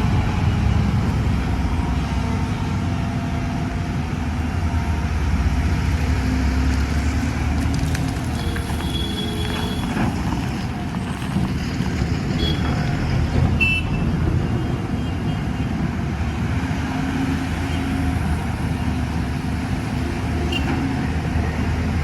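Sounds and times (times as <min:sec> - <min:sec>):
excavator diesel engine rumbling: 0:00.0 - 0:22.0.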